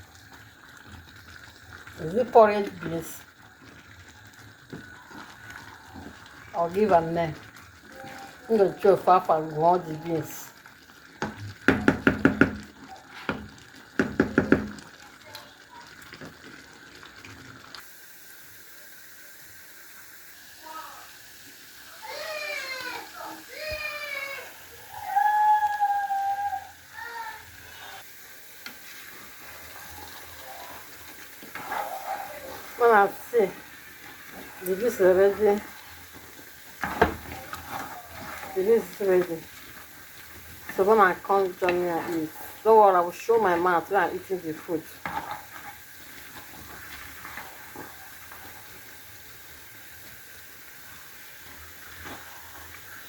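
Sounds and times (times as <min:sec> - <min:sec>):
pot sizzling on fire: 0:00.0 - 0:53.0.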